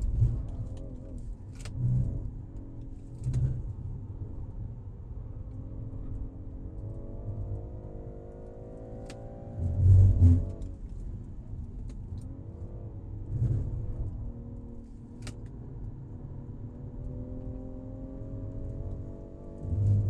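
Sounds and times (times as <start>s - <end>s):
car engine accelerating: 0.0s - 4.6s, 5.2s - 20.0s.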